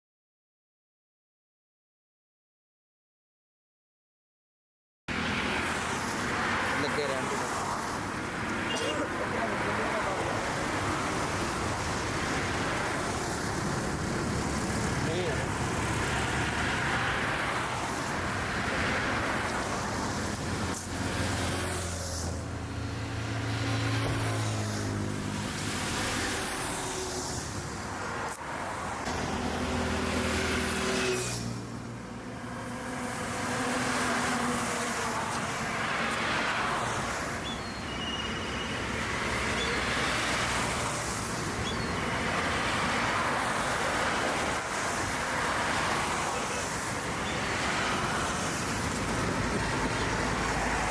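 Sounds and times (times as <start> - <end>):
vehicles passing: 5.1 - 50.9.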